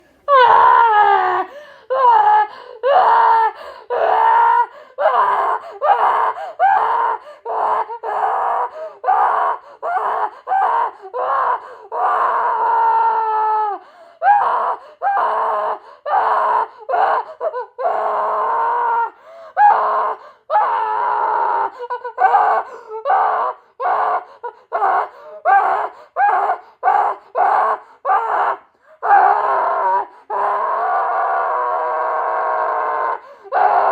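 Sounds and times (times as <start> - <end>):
boy screaming and wailing: 0.3 - 33.9.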